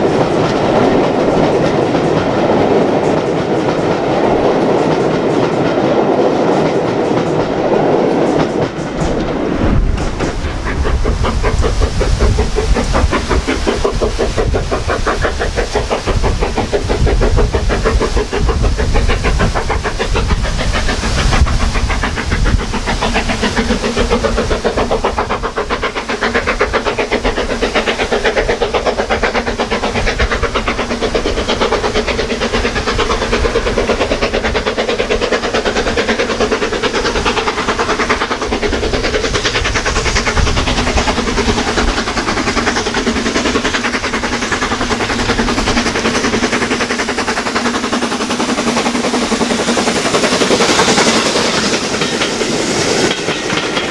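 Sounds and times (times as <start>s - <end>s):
steam hiss: 0.0s - 53.9s
steam locomotive exhaust beats: 0.0s - 53.9s.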